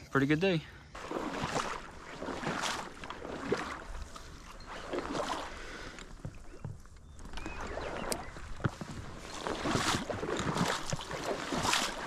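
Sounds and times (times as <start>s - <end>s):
water sloshing and splashing: 0.9s - 12.0s.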